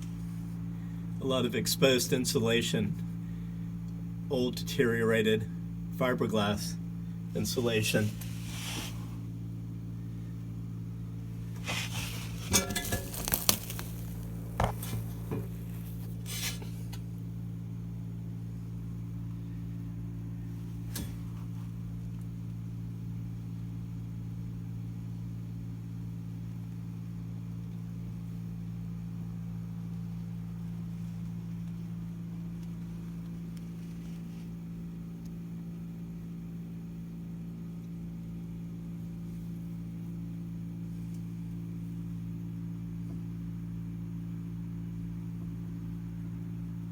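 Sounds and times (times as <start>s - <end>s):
low electrical hum of hvac equipment: 0.0s - 46.9s.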